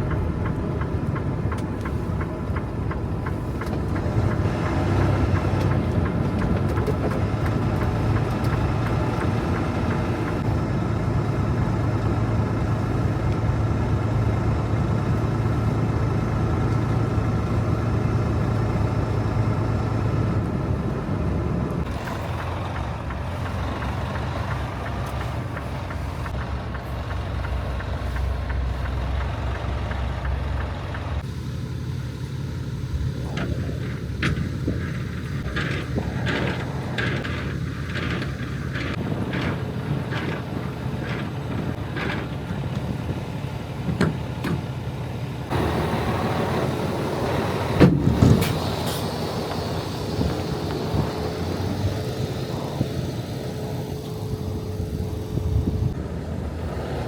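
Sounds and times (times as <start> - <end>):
road noise: 0.0 - 57.0
truck engine hum: 0.0 - 57.0.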